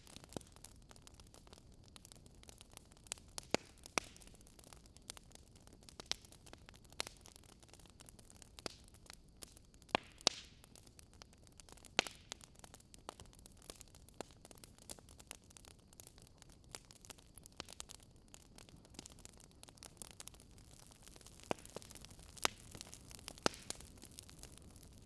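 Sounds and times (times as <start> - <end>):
firewood crackling and popping: 0.0 - 25.0.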